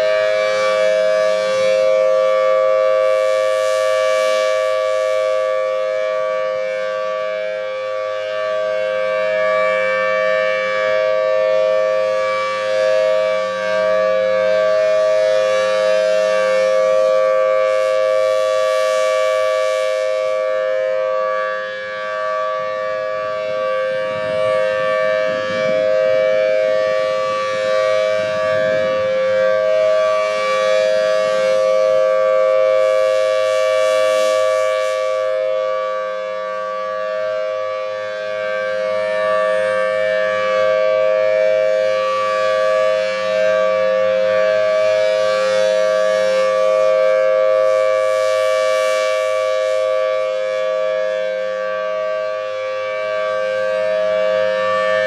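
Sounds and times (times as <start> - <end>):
warning siren wailing: 0.0 - 55.0.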